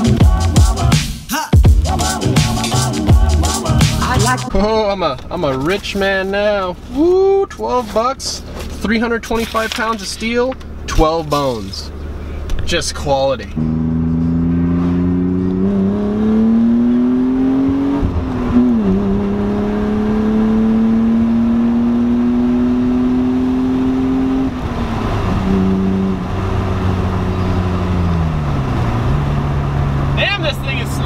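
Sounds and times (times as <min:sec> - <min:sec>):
car engine accelerating: 0:02.2 - 0:31.0.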